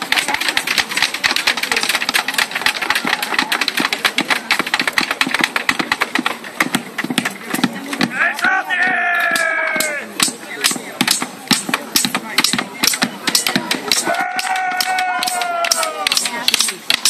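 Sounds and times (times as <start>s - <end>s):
weapons beaten against shields: 0.0s - 17.0s.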